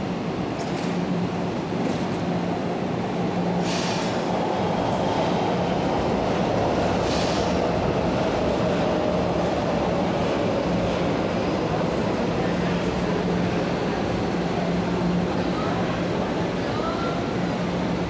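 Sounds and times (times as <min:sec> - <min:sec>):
electric train hum: 0:00.0 - 0:18.0.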